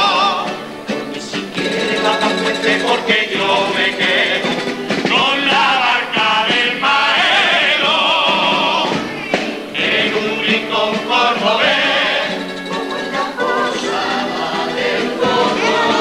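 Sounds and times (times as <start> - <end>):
male choir singing: 0.0 - 9.1, 9.7 - 16.0.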